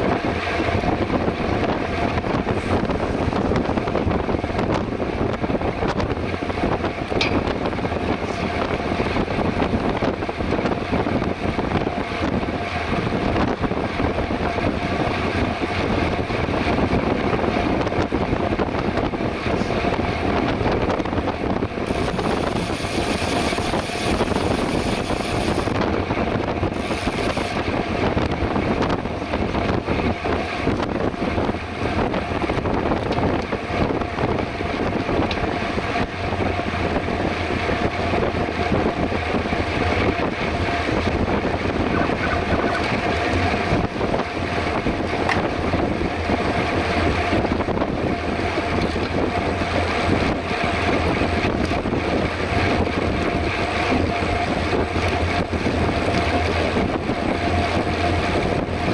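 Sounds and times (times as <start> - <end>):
bicycle rolling noise: 0.0 - 58.9
wind rushing over microphone: 0.0 - 58.9.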